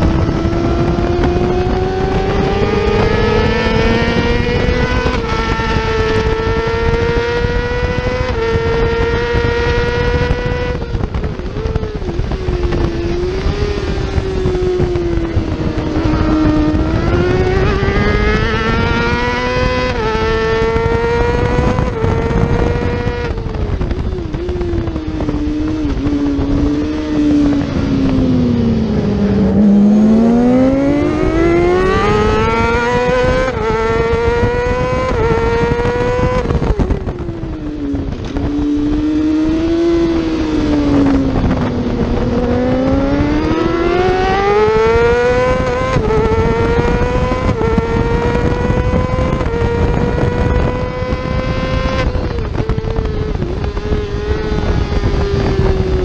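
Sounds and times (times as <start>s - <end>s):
motorcycle engine revving through gears: 0.0s - 56.0s.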